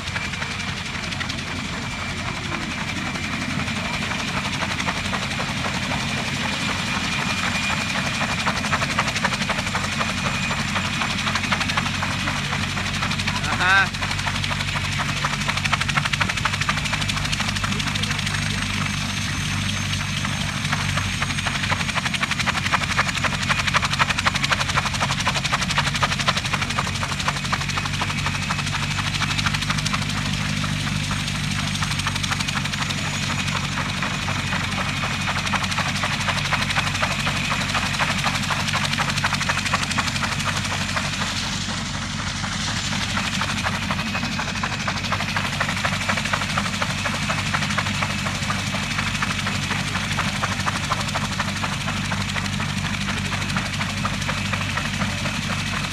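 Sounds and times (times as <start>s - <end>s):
helicopter rotor beat: 0.0s - 55.9s
turbine engine whine: 0.0s - 55.9s.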